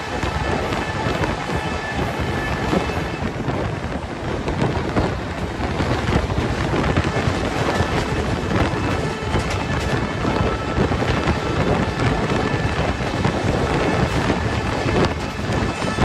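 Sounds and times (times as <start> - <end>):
train rumble and air rush: 0.0 - 16.0
wheels and coach rattling: 0.0 - 16.0.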